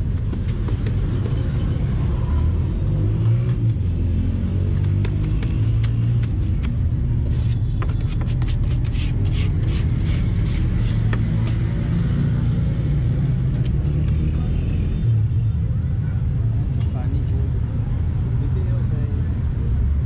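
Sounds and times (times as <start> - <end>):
motor vehicles rumbling: 0.0 - 20.0.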